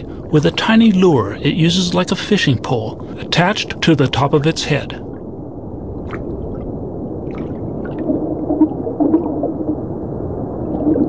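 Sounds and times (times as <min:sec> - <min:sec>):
faint gurgling tones: 0:00.0 - 0:11.0
underwater low rush: 0:00.0 - 0:11.0.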